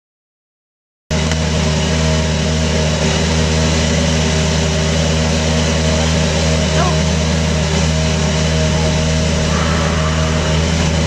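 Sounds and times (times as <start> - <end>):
race car engine idling: 1.2 - 11.0.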